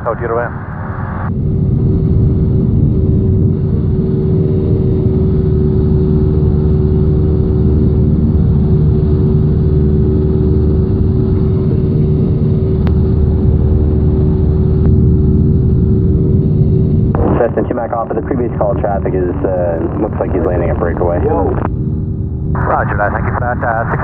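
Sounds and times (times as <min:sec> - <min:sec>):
propeller aircraft engine droning: 0:00.0 - 0:24.0.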